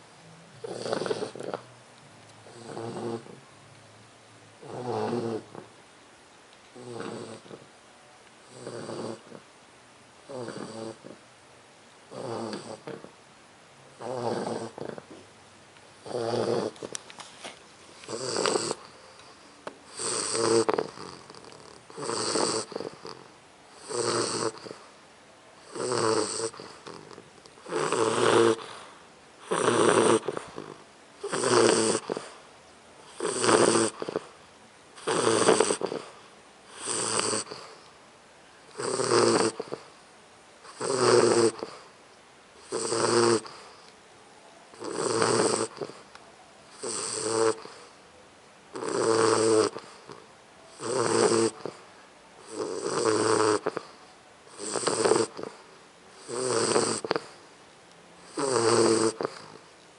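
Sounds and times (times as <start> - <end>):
puppy snoring: 0.0 - 1.8, 2.4 - 3.5, 4.6 - 5.8, 6.7 - 7.8, 8.4 - 9.5, 10.2 - 11.3, 12.1 - 13.2, 14.0 - 15.2, 16.0 - 25.0, 25.6 - 37.9, 38.7 - 42.0, 42.6 - 43.9, 44.7 - 48.0, 48.7 - 57.5, 58.2 - 59.8.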